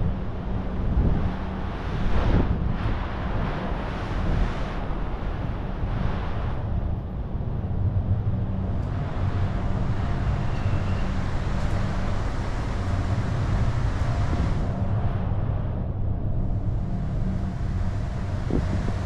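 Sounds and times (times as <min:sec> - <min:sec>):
hiss of wind and sea: 0:00.0 - 0:19.0
ship running noise: 0:00.0 - 0:19.0
wind buffeting microphone: 0:00.0 - 0:19.0.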